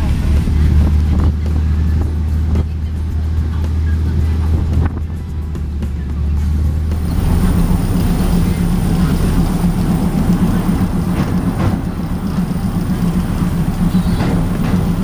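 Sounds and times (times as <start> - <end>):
continuous rumble: 0.0 - 15.0
diesel train engine drone: 0.0 - 15.0.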